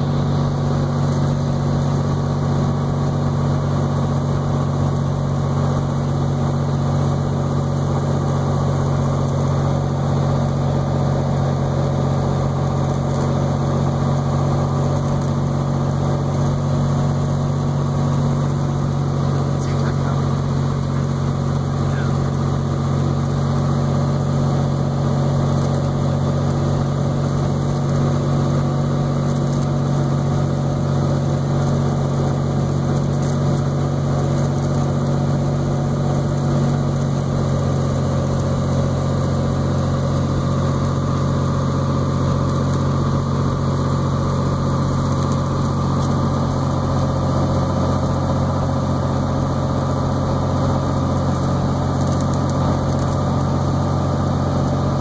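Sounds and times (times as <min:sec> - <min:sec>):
airplane engine and propeller droning: 0:00.0 - 0:55.0.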